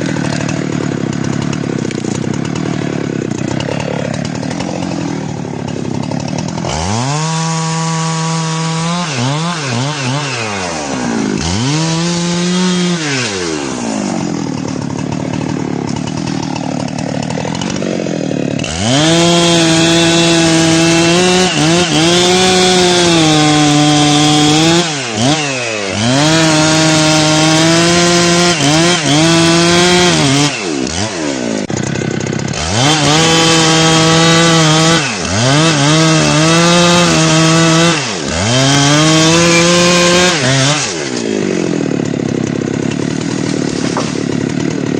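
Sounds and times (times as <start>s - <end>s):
chainsaw cutting tree: 0.0s - 44.9s.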